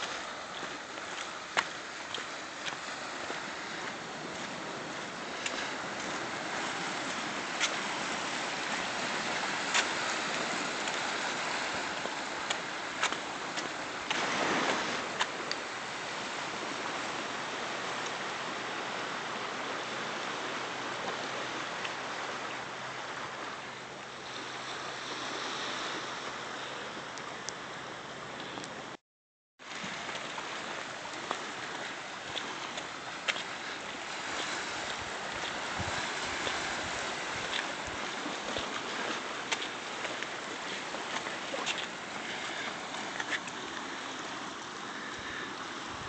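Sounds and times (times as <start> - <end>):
ocean surf on rocks: 0.0 - 29.0, 29.6 - 46.0.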